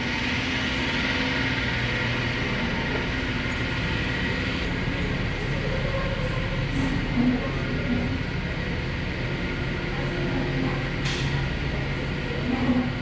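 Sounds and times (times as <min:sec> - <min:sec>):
ship engine and ventilation hum: 0:00.0 - 0:13.0.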